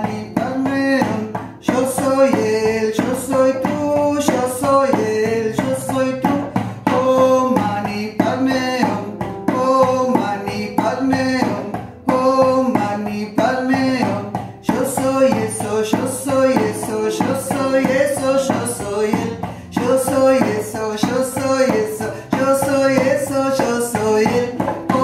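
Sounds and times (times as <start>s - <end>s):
hand drum beating: 0.0s - 25.0s.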